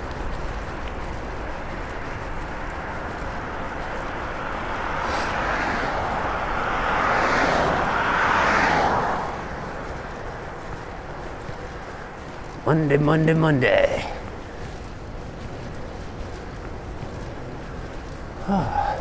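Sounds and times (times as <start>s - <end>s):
car passing: 0.0s - 19.0s
wind and road noise: 0.0s - 19.0s.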